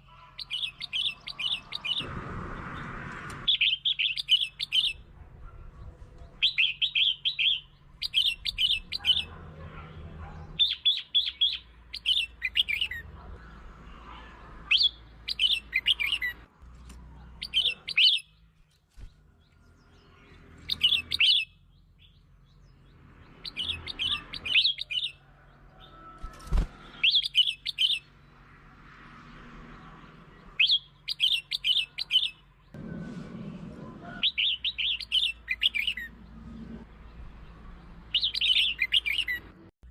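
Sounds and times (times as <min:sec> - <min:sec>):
bird singing warbled phrases: 0:00.0 - 0:28.5, 0:29.6 - 0:32.8, 0:34.2 - 0:39.9.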